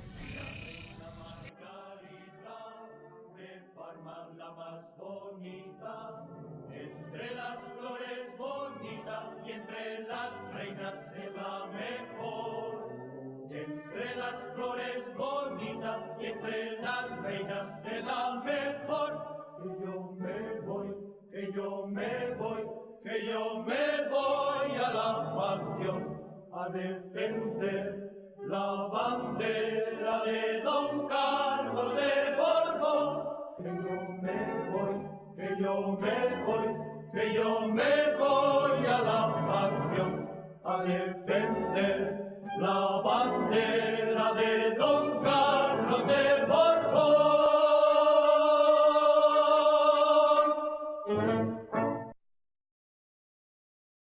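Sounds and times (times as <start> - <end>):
choir singing slow chant: 0.0 - 51.2.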